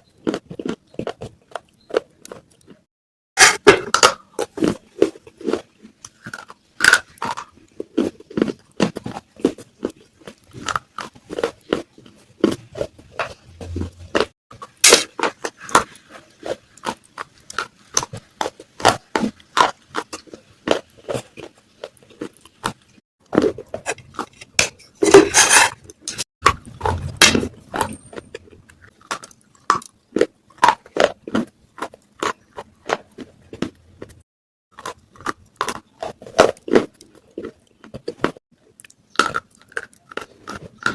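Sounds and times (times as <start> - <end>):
clay pieces crunched by chewing: 0.0 - 2.9, 3.9 - 25.0, 25.9 - 40.9.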